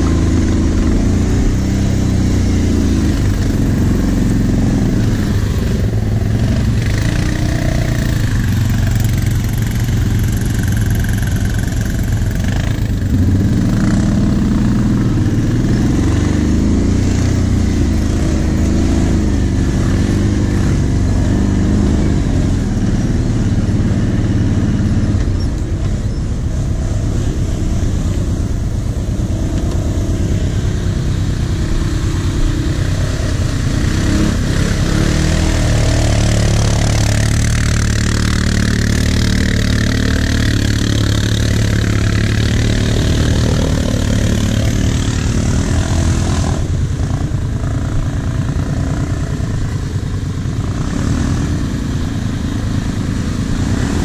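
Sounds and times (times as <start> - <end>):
quad bike engines running: 0.0 - 54.0.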